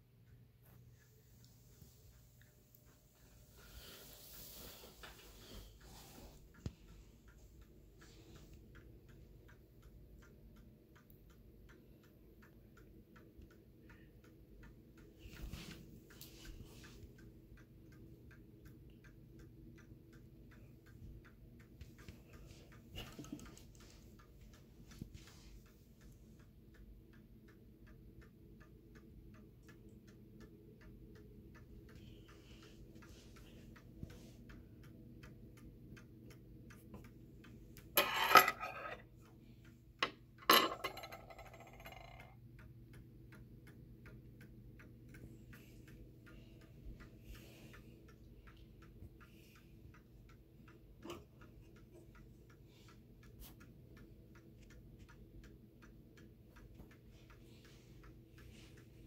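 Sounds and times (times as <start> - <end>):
mantel clock ticking: 0.0 - 59.0.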